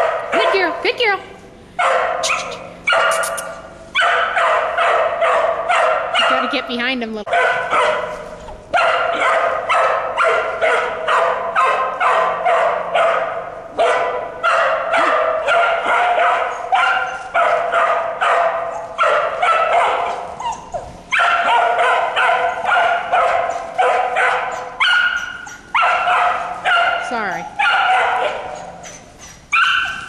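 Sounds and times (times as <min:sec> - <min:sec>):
dog barking: 0:00.0 - 0:00.7, 0:01.8 - 0:06.6, 0:07.3 - 0:20.4, 0:21.1 - 0:28.9, 0:29.5 - 0:30.0.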